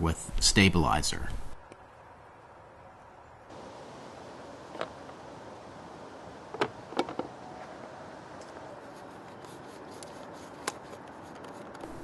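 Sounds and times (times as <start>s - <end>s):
faint steady hiss: 0.0s - 10.8s.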